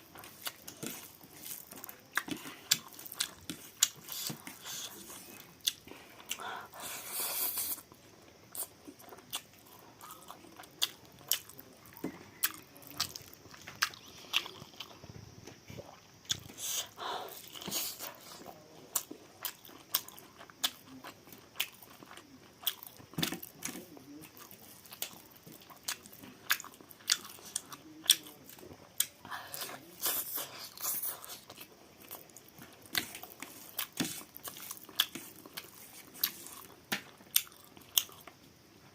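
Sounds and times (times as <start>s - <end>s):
person chewing: 0.0s - 15.0s, 15.7s - 38.4s.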